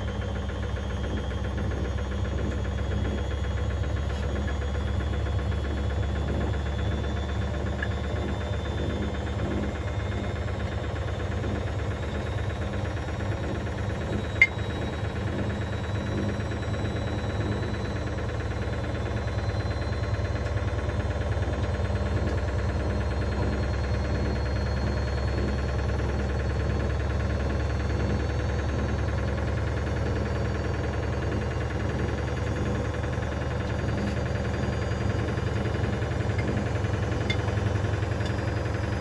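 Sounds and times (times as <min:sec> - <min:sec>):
washing machine running: 0:00.0 - 0:39.0.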